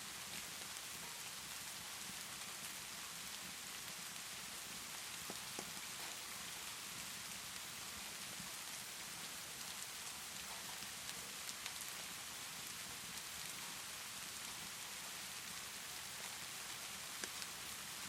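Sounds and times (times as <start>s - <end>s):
steady rainfall: 0.0s - 18.0s
wood fire crackles: 0.0s - 18.0s.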